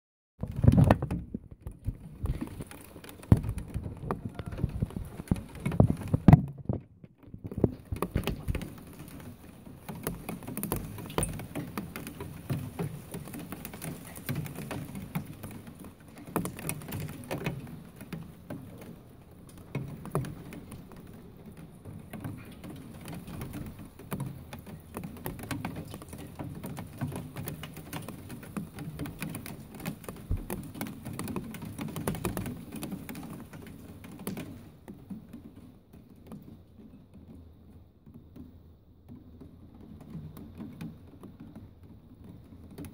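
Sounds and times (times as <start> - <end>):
rain pattering on hard surface: 0.4 - 42.9.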